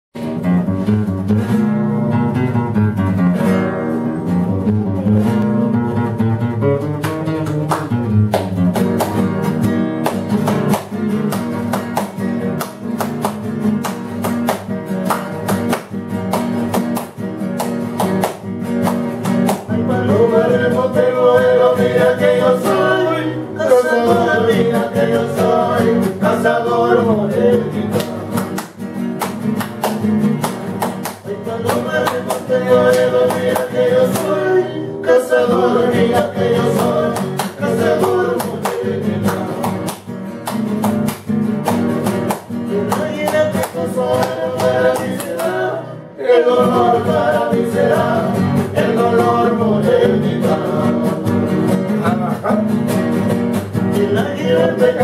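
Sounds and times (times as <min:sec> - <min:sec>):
acoustic guitars strummed and plucked: 0:00.1 - 0:55.0
hand-clapping: 0:06.8 - 0:23.1, 0:24.2 - 0:34.6, 0:35.2 - 0:45.7, 0:46.6 - 0:55.0.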